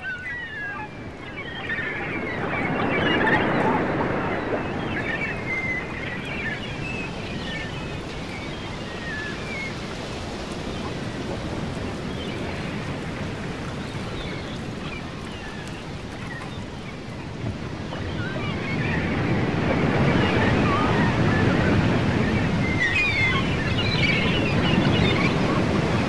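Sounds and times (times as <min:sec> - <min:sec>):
ocean surf: 0:00.0 - 0:26.0
wind: 0:00.0 - 0:26.0.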